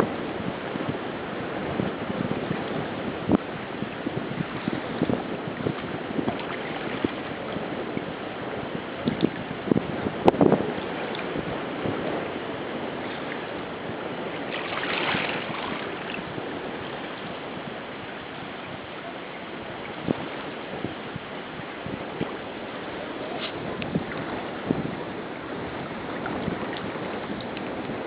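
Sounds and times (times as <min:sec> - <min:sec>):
water rushing along a hull: 0:00.0 - 0:28.0
wind buffeting microphone: 0:00.0 - 0:28.0.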